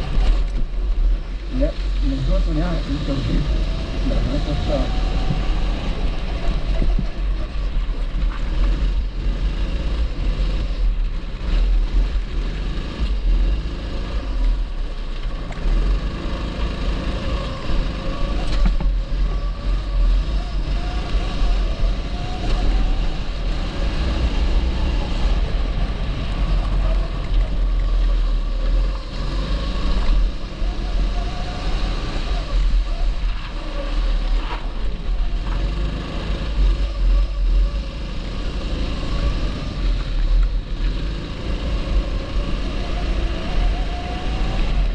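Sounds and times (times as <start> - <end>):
kart engine revving: 0.0 - 44.9.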